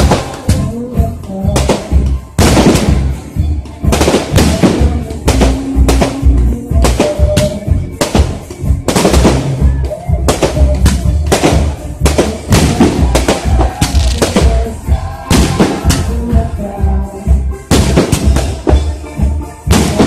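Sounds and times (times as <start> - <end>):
fireworks bangs and crackles: 0.0 - 16.9, 17.6 - 20.0
music with heavy drum beat: 0.0 - 20.0.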